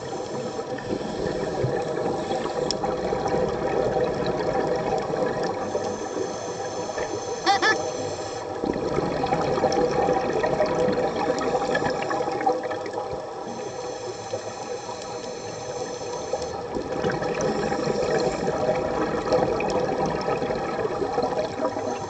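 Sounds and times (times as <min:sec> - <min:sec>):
underwater watery rush: 0:00.0 - 0:22.0.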